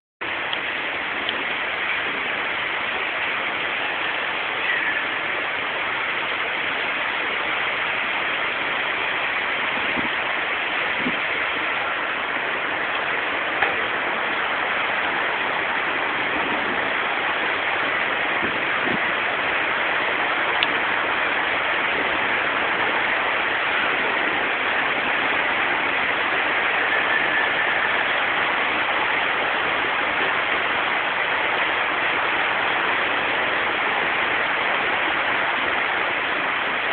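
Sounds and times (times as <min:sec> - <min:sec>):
heavy rain pouring: 0:00.2 - 0:36.9
raindrops ticking: 0:00.2 - 0:36.9.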